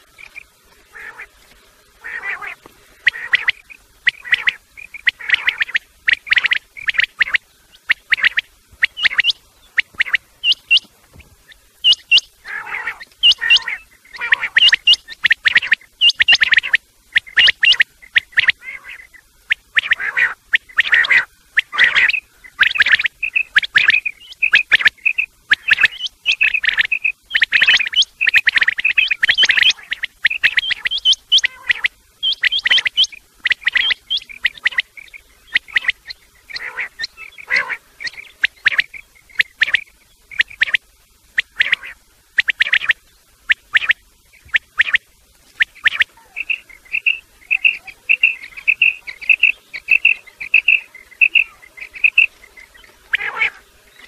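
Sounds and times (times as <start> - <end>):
quail chirping call: 0.0 - 1.3, 2.0 - 54.0.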